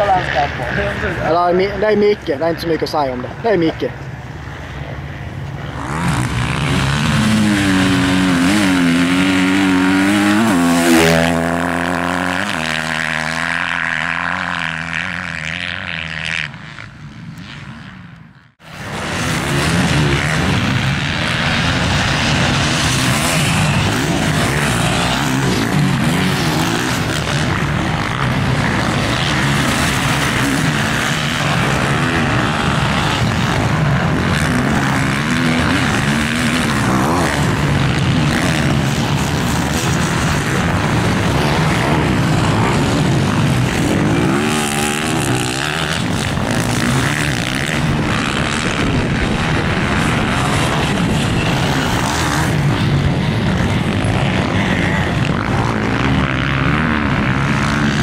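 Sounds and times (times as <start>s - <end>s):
motocross bike engine revving: 5.6s - 58.0s.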